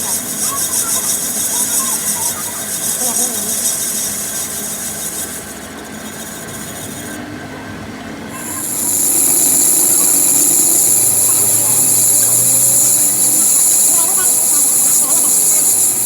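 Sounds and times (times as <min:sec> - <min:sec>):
high-pitched screech of metal cutting: 0:00.0 - 0:07.2, 0:08.3 - 0:16.0.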